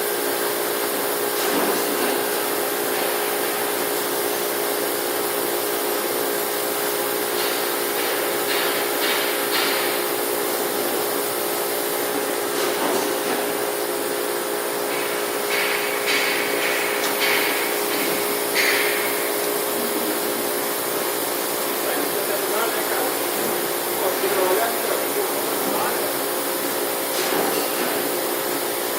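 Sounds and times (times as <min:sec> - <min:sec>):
laser cutting machine hissing: 0:00.0 - 0:28.9.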